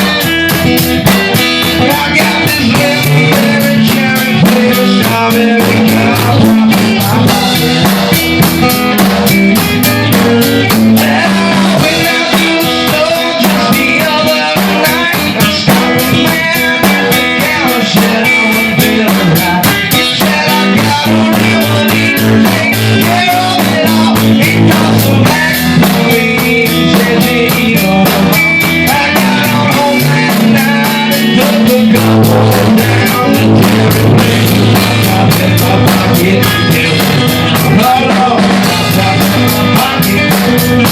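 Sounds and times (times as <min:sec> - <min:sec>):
blues-rock guitar: 0:00.0 - 0:40.9
drum kit beat: 0:00.0 - 0:40.9.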